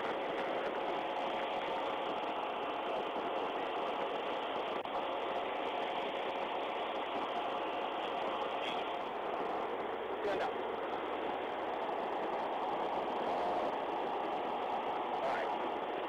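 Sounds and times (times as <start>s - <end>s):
engine idling hum: 0.0s - 16.0s
faint steady tones: 0.0s - 16.0s.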